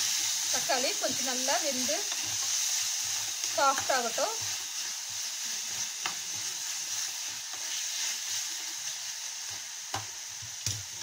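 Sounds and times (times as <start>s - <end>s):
spatula scraping a pan: 0.0s - 9.6s
vegetables sizzling in oil: 0.0s - 11.0s.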